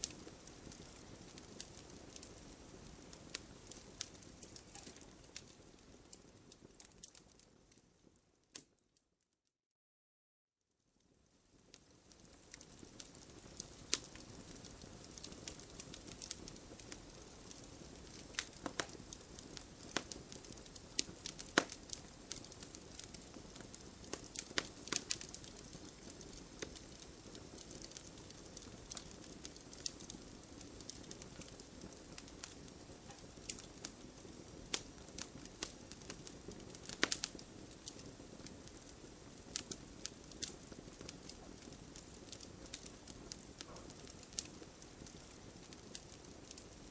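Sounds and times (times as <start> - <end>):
wood fire crackling: 0.0 - 8.9, 11.0 - 46.9.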